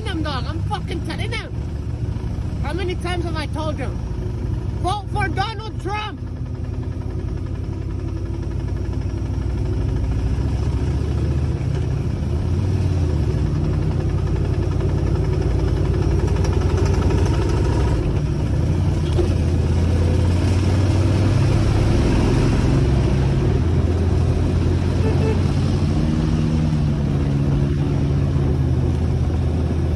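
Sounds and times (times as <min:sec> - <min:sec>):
road noise: 0:00.0 - 0:29.9
vehicle engine running: 0:00.0 - 0:29.9.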